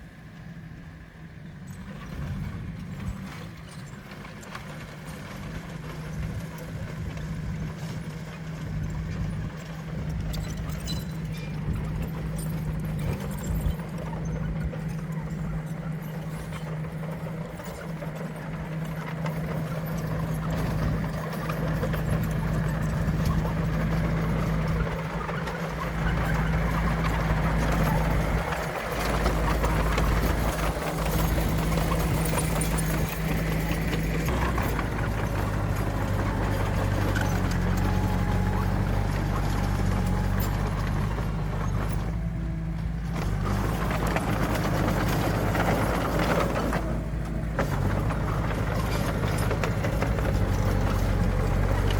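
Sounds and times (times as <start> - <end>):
diesel engines of heavy machines: 0.0 - 51.9.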